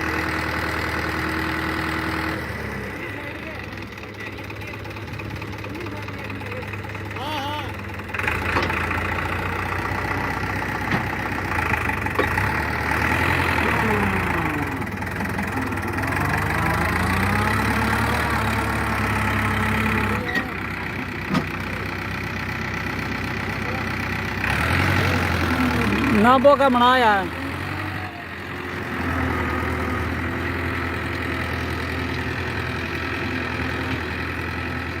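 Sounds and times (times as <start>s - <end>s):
diesel tractor engine running: 0.0s - 35.0s.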